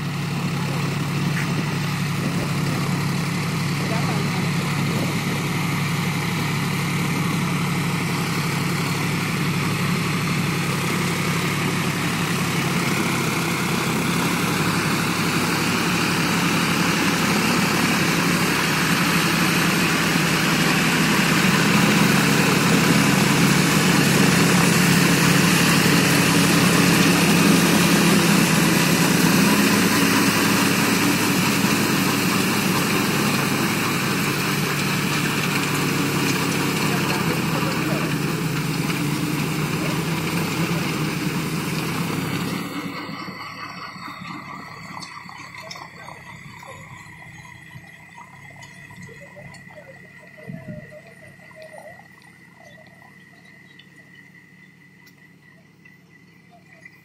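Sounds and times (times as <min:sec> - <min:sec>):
diesel tractor engine under load: 0:00.0 - 0:57.0.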